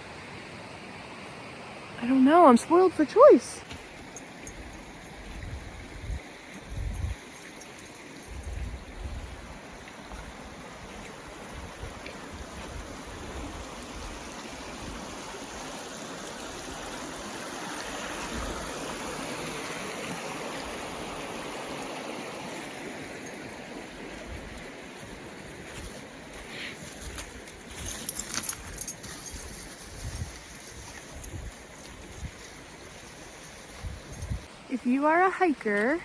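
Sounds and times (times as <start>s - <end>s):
stream rushing: 0.0s - 36.0s.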